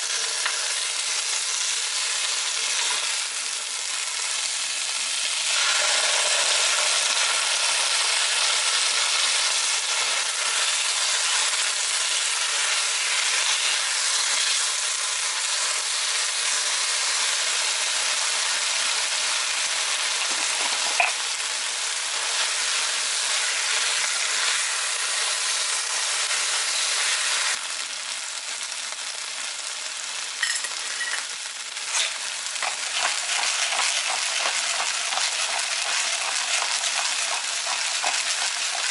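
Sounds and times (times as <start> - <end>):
food sizzling in frying pan: 0.0 - 38.9.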